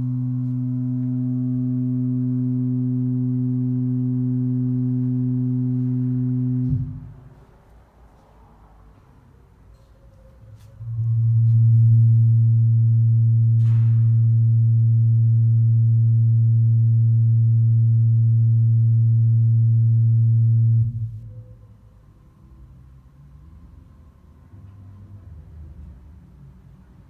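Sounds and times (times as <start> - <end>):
low hum tone with overtones: 0.0 - 26.9.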